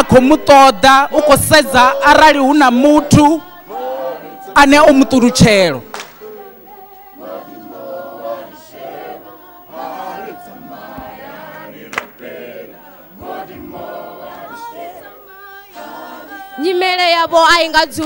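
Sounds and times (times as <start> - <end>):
group singing softly unaccompanied: 0.0 - 17.6.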